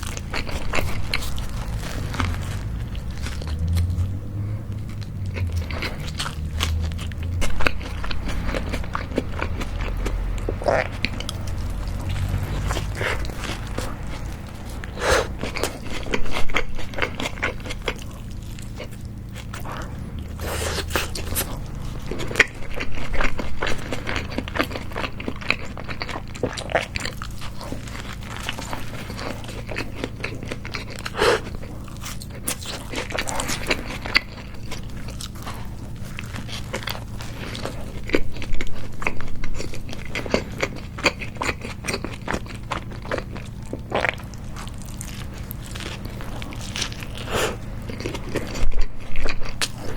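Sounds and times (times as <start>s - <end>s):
chewing and biting: 0.0s - 49.9s
low steady hum: 0.0s - 49.9s.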